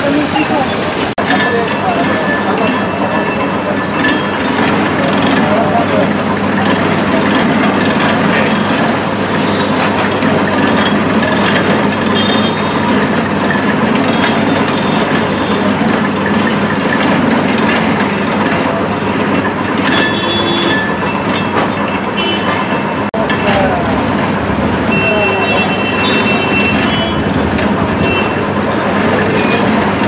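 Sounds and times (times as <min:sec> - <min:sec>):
sugarcane crusher rollers grinding: 0:00.0 - 0:30.0.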